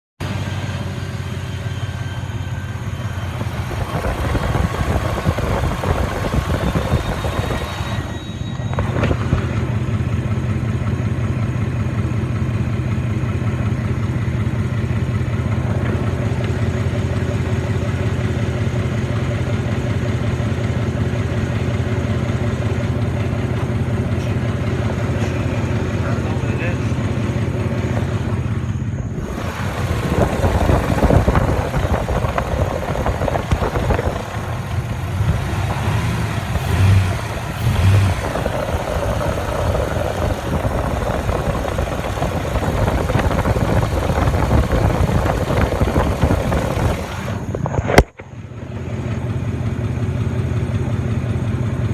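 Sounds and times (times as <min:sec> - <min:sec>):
engine idling with ticking: 0:00.2 - 0:51.9.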